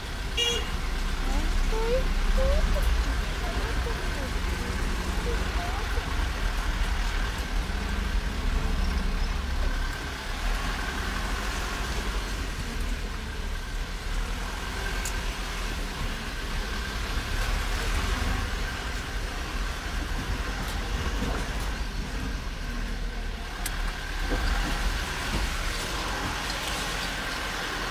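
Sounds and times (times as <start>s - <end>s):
engine and road rumble: 0.0s - 27.9s.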